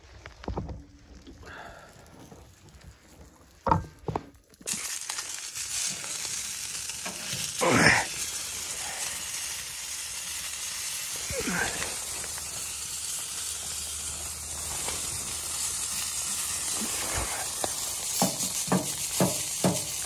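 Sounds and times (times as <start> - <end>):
meat sizzling: 1.1 - 20.0.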